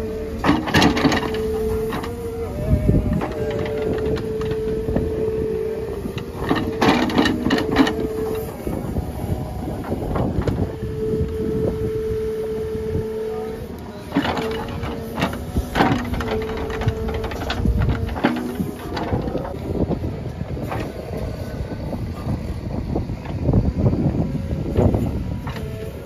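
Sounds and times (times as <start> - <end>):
diesel engine under load: 0.0 - 26.0
hydraulic whine: 0.0 - 26.0.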